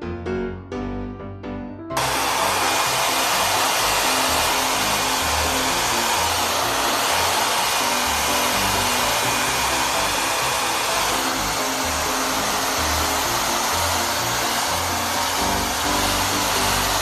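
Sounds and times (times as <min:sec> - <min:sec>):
background music: 0:00.0 - 0:17.0
hair dryer running: 0:02.0 - 0:17.0.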